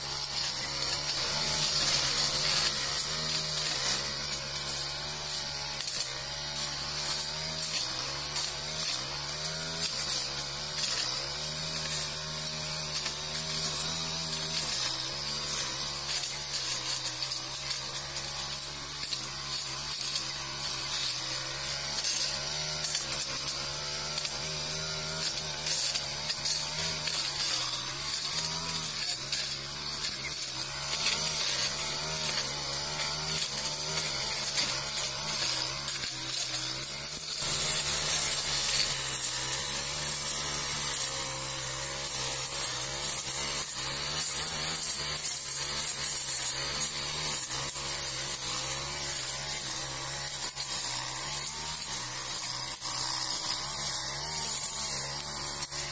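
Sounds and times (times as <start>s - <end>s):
blade chopping through weeds: 0.0s - 55.9s
brush cutter engine at high revs: 0.0s - 55.9s.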